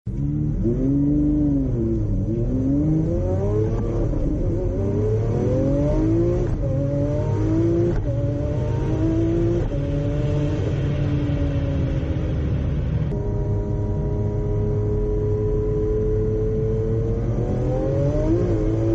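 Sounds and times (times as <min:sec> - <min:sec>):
sports car engine accelerating: 0:00.1 - 0:18.9.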